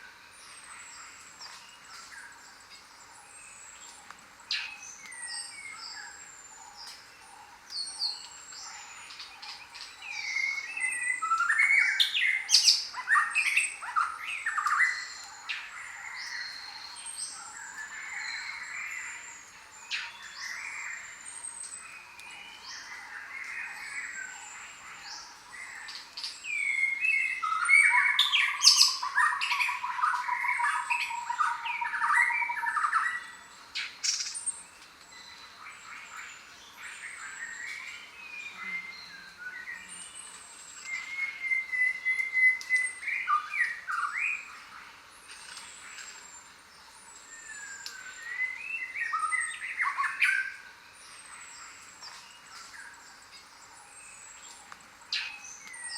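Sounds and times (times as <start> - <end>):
birds singing in chorus: 0.0 - 55.9
birds squawking and chirping: 2.8 - 55.9.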